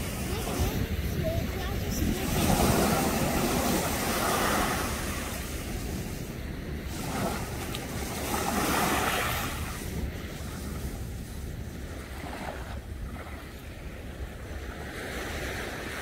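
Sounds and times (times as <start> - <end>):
waves splashing against rocks: 0.0 - 16.0
wind rumble on microphone: 0.0 - 16.0.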